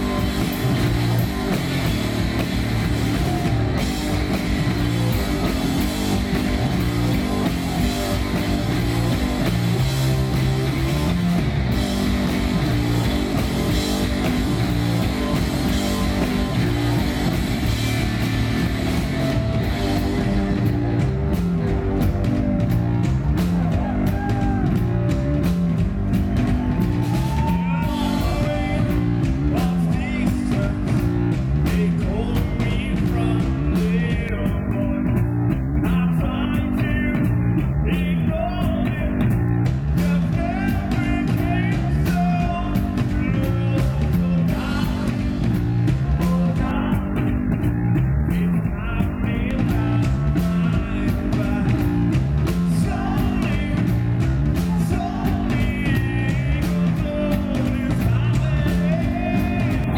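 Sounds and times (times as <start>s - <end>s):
bass guitar: 0.0s - 59.9s
distorted electric guitar: 0.0s - 59.9s
drum kit with cymbals: 0.0s - 59.9s.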